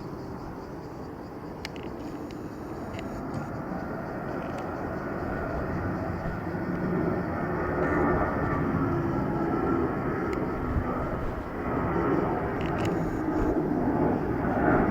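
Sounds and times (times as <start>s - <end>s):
jet engine rumble: 0.0s - 14.9s
jet engine whine: 0.0s - 14.9s.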